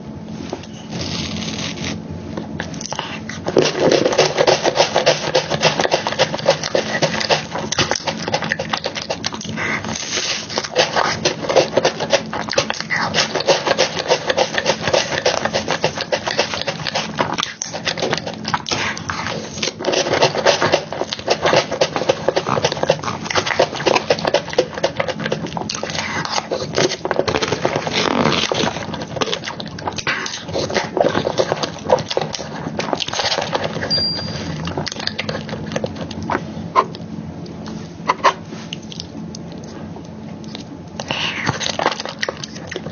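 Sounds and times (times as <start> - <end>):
wet chewing and lip smacking: 2.5 - 37.8, 38.7 - 42.9.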